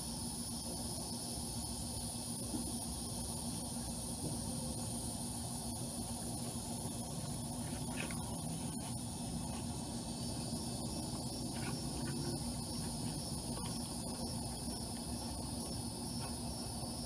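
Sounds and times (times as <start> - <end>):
high-pitched insect drone: 0.0 - 17.0
low steady hum and rumble: 1.4 - 17.0.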